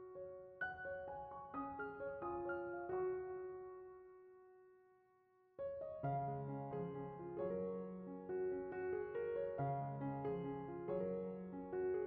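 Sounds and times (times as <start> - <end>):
piano music: 0.0 - 4.5, 5.6 - 12.0.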